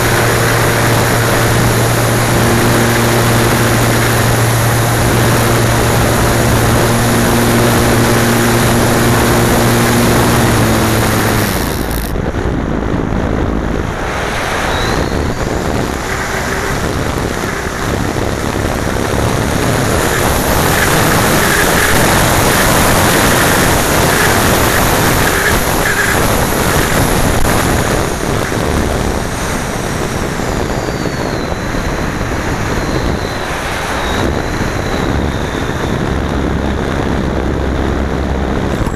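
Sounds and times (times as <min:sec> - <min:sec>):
low hum: 0:00.0 - 0:38.9
wind noise rushing: 0:00.0 - 0:38.9.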